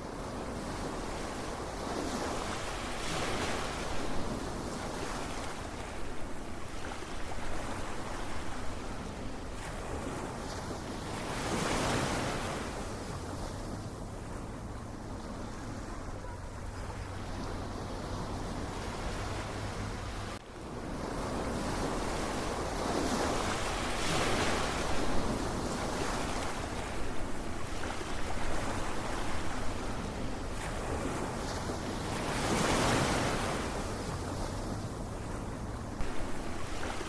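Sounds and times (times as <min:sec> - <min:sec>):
waves breaking: 0:00.0 - 0:37.0.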